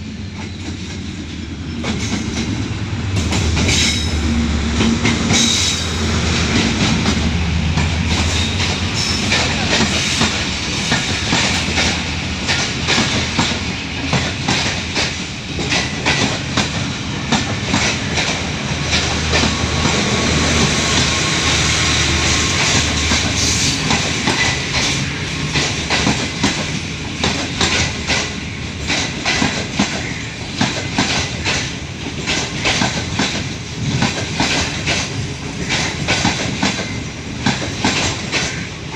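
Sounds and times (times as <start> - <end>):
low steady train rumble: 0.0 - 38.9
train wheels clacking over rail joints: 0.3 - 38.9.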